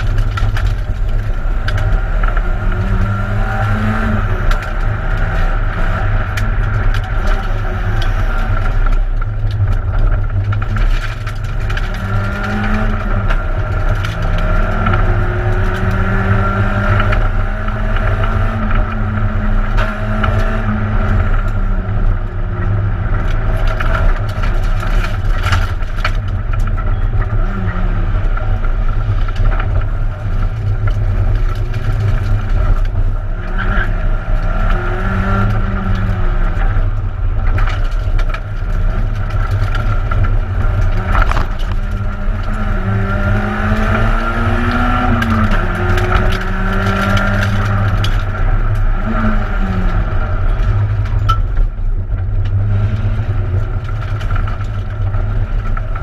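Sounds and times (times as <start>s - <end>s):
rally car engine revving: 0.0s - 56.0s
road and drivetrain rumble: 0.0s - 56.0s
sharp clicks and rattles: 0.0s - 56.0s.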